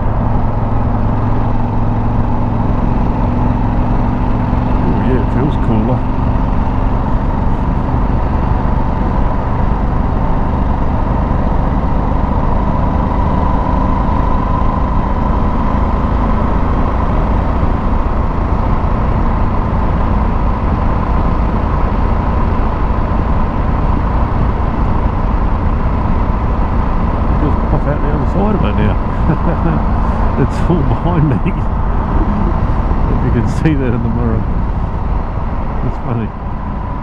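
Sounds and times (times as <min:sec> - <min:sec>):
motorcycle running: 0:00.0 - 0:37.0
wind and road noise: 0:00.0 - 0:37.0.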